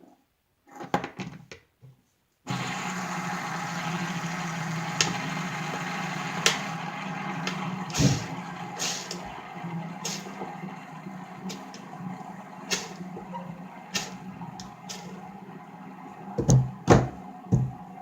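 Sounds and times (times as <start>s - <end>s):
ball bearing whirring on table: 2.5s - 18.0s.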